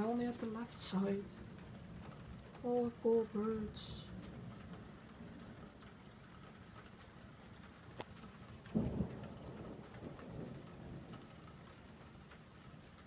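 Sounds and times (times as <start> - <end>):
steady rain: 0.0 - 13.0
thunder rumble: 0.0 - 13.0.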